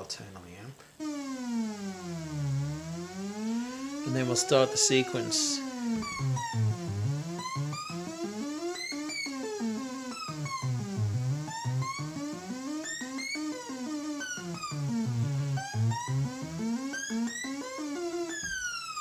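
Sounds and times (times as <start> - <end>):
synthesizer sequence of stepped pitches: 1.0 - 19.0.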